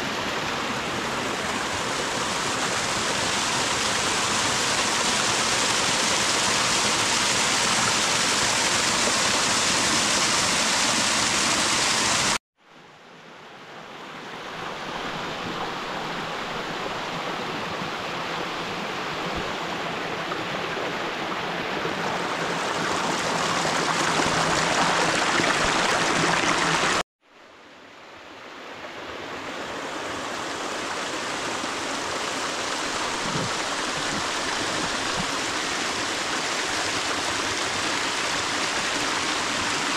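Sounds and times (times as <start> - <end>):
stream splashing over rocks: 0.0 - 12.4, 14.6 - 27.0, 29.9 - 39.9.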